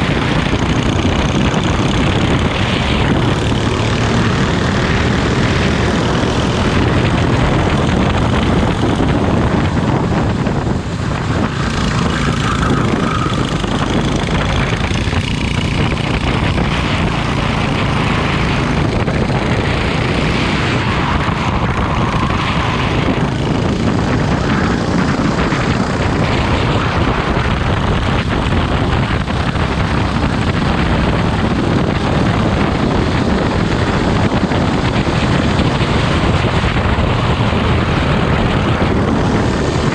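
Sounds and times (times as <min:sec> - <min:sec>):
racing kart engine running: 0:00.0 - 0:39.9.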